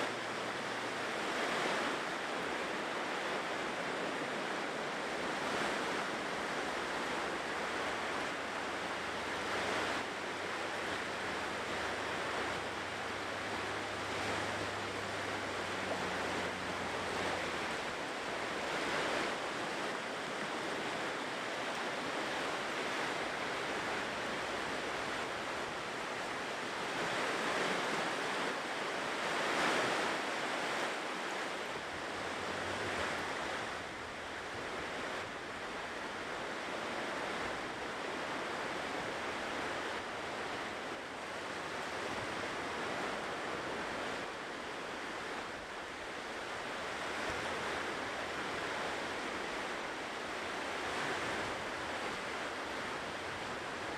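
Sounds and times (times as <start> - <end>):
ocean waves washing ashore: 0.0 - 53.9.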